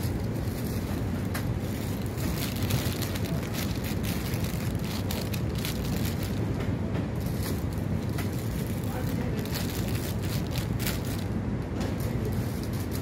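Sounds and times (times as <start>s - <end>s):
plastic sleeves crinkling: 0.0s - 6.5s, 7.2s - 11.4s
steady low rumble: 0.0s - 13.0s.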